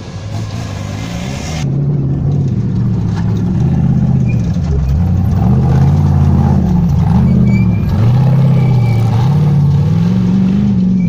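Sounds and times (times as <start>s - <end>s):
buggy engine revving hard: 0.0s - 11.0s.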